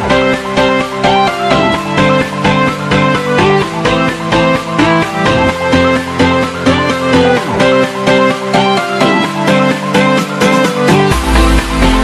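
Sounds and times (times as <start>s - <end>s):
upbeat electronic music: 0.0s - 12.0s.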